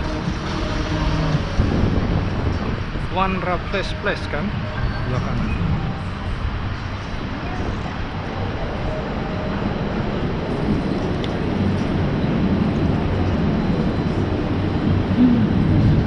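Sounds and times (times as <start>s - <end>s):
traffic: 0.0s - 16.0s
wind: 0.0s - 16.0s.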